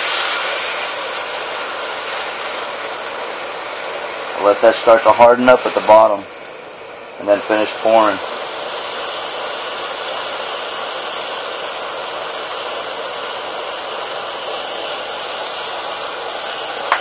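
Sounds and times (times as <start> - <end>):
stove burner hissing: 0.0 - 17.0.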